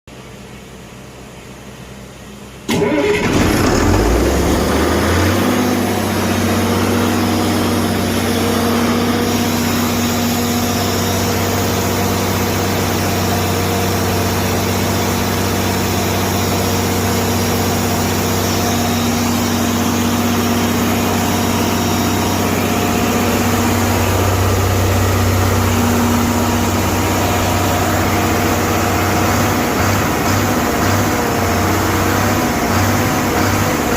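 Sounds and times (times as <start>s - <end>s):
diesel engine starting and running: 0.1s - 33.9s.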